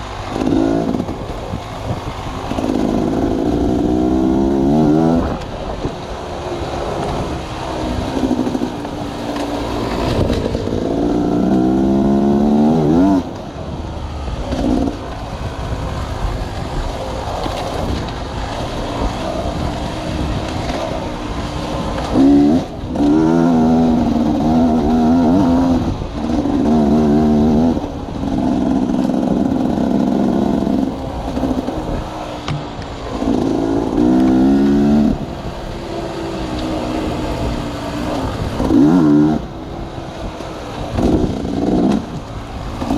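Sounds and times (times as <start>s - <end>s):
sawmill machinery running: 0.0s - 42.9s.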